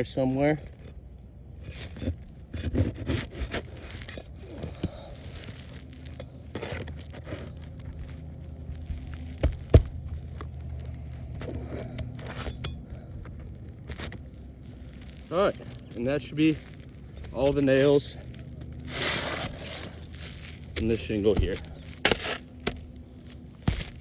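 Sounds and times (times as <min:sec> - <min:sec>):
bar scraping under shingles: 0:00.7 - 0:24.0.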